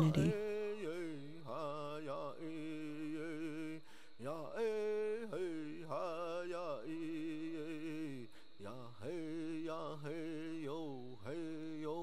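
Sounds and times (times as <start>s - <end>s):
man singing chant-like song: 0.0s - 12.0s.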